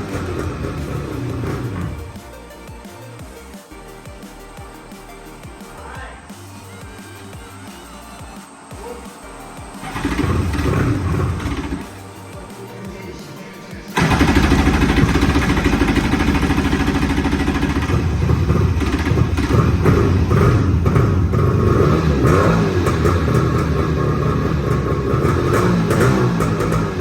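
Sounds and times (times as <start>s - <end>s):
jet ski engine running: 0.0s - 4.2s, 6.2s - 13.0s, 13.8s - 27.0s
background music: 0.0s - 27.0s.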